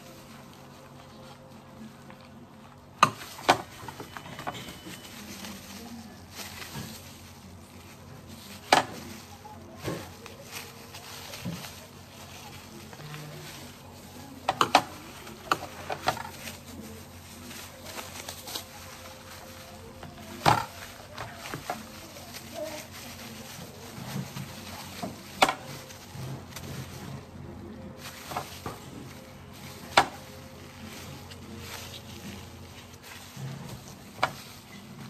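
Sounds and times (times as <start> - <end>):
fruit handling noise: 0.0 - 35.0.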